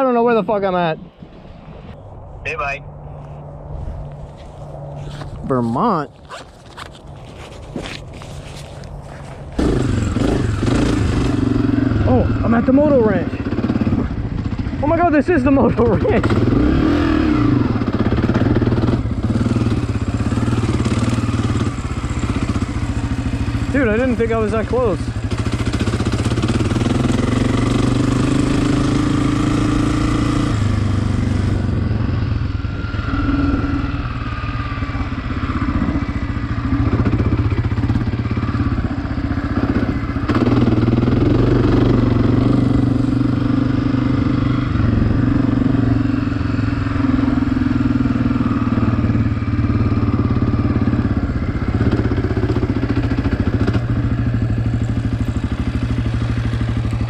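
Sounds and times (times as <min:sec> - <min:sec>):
dirt bike engine revving: 0:09.6 - 0:57.0.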